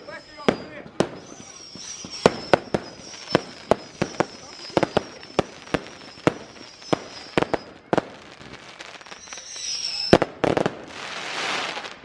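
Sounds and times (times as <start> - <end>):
firework high whistle: 0.0 - 12.0
fireworks bangs: 0.0 - 12.0.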